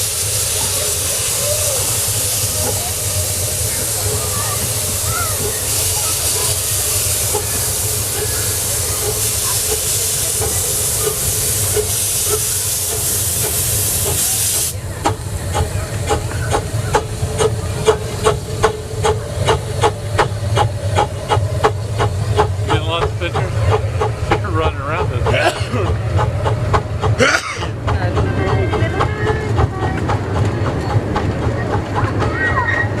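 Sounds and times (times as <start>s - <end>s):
steam hissing: 0.0s - 31.0s
steam locomotive exhaust chuffs: 0.0s - 33.0s.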